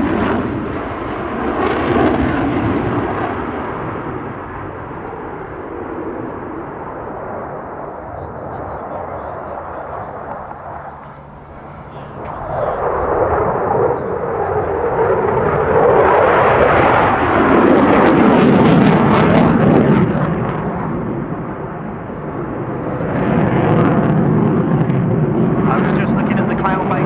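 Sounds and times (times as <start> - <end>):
jet engines passing: 0.0 - 27.0.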